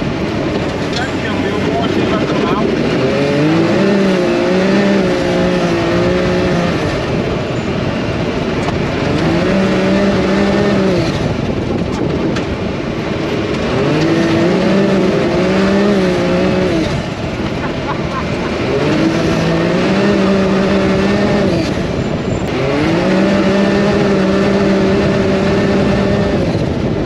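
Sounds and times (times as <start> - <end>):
dense steady rushing noise: 0.0 - 27.0
vehicle engine running: 0.0 - 27.0.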